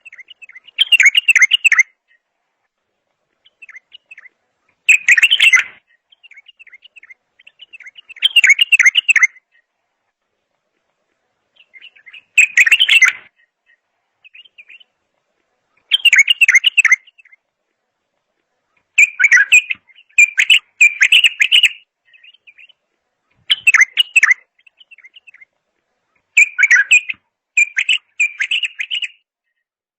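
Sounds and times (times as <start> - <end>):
soft bird twittering: 0.0 - 2.3, 3.3 - 9.8, 11.5 - 17.5, 18.7 - 29.7
songbird warbling: 0.0 - 2.3, 3.3 - 9.7, 11.5 - 15.0, 15.6 - 17.4, 18.7 - 29.2.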